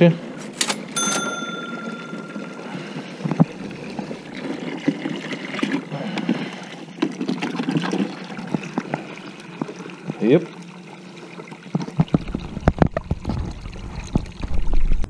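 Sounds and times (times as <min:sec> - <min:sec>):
water pouring and gurgling: 0:01.6 - 0:15.0.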